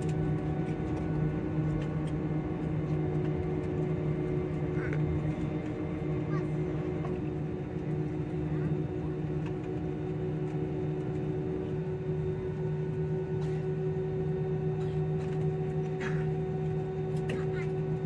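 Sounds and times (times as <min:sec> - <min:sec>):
jet engine and cabin hum: 0:00.0 - 0:18.0.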